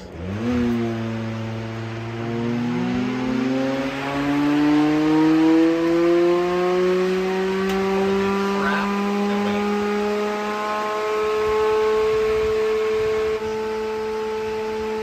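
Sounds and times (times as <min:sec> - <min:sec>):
fan humming and speeding up: 0:00.0 - 0:15.0.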